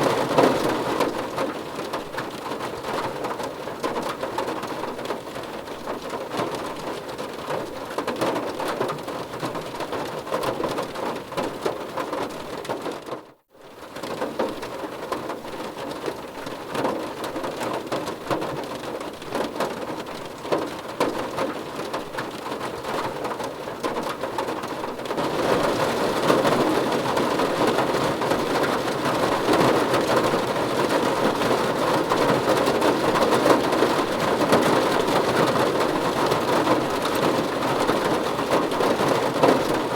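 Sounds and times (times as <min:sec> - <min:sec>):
rain pattering on a car: 0:00.0 - 0:39.9.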